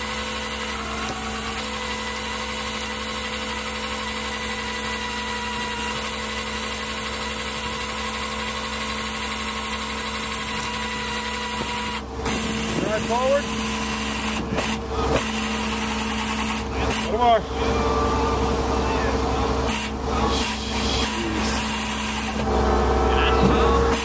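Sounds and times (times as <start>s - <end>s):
truck engine humming: 0.0s - 24.0s.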